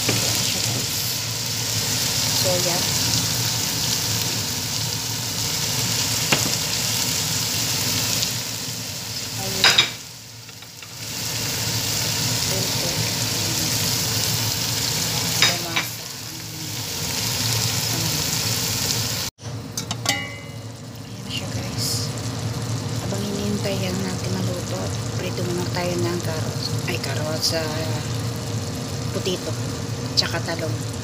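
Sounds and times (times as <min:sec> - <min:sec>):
food sizzling in a pot: 0:00.0 - 0:31.0.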